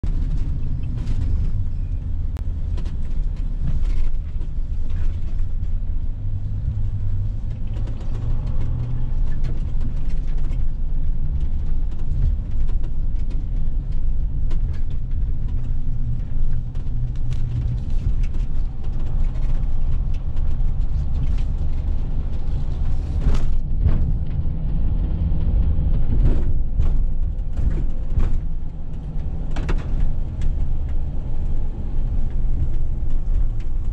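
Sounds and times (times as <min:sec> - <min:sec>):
engine and tyre rumble: 0:00.0 - 0:33.9
knocks and rattles from bumps: 0:02.6 - 0:33.9.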